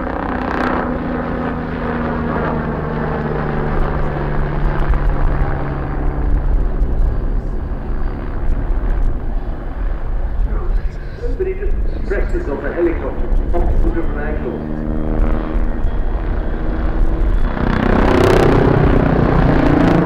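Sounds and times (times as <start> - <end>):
helicopter flying overhead: 0.0 - 20.0.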